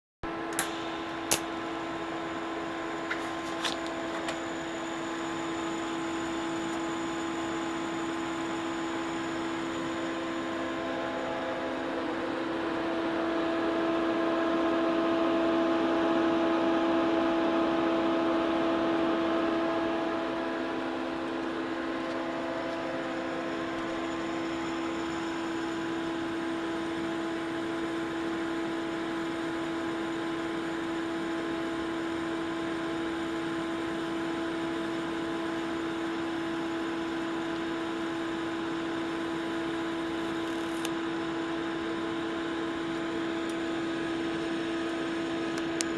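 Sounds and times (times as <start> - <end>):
welding machine electrical hum: 0.3 - 45.9.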